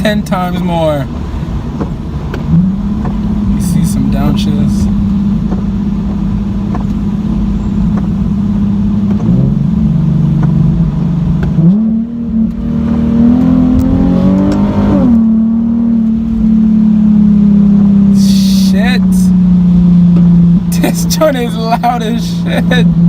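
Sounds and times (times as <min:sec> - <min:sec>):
loud car engine droning: 0:00.0 - 0:23.0.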